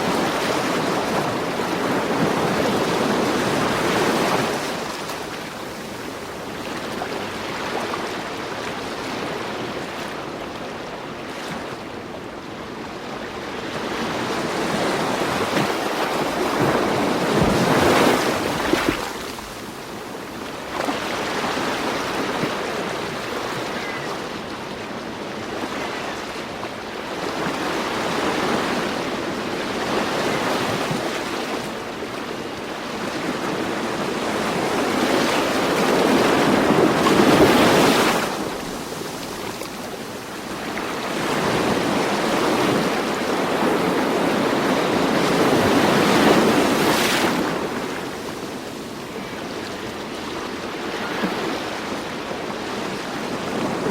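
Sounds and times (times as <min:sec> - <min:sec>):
ocean waves washing on shore: 0:00.0 - 0:53.9.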